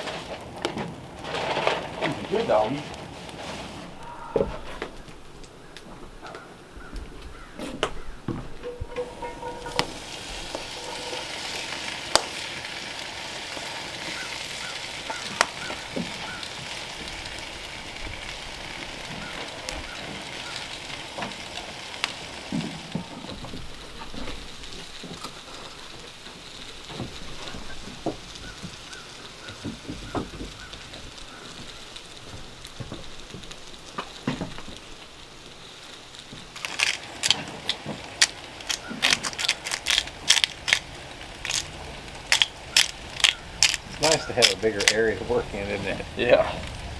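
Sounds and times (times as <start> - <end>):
food sizzling in oil: 8.8 - 46.9.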